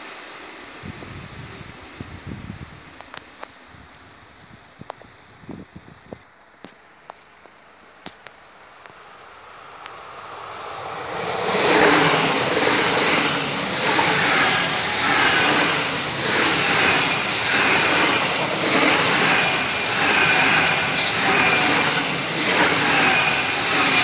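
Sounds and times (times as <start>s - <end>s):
passenger train passing: 0.0s - 5.5s, 6.8s - 24.0s.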